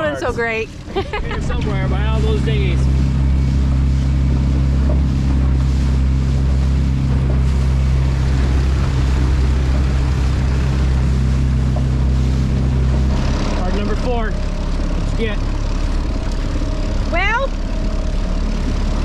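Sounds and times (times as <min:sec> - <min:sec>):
outboard motor running: 0:00.0 - 0:19.0
rushing water: 0:00.0 - 0:19.0.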